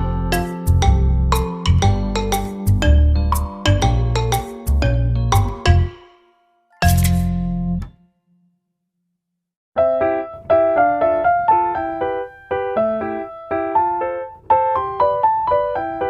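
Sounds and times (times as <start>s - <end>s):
piano tune: 0.0s - 8.1s, 9.8s - 16.0s.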